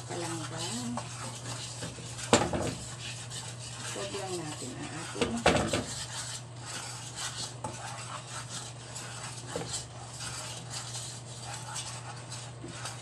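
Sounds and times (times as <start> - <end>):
spatula scraping frying pan: 0.0 - 13.0
steady low hum: 0.0 - 13.0.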